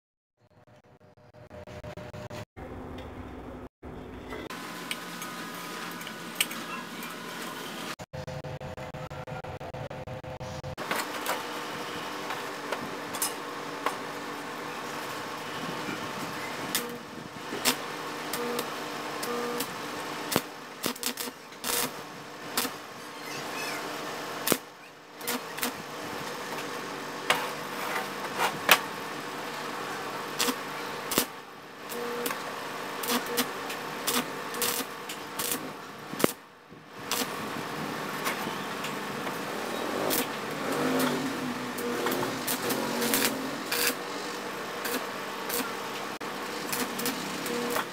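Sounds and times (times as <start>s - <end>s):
motor hum: 0.5s - 47.9s.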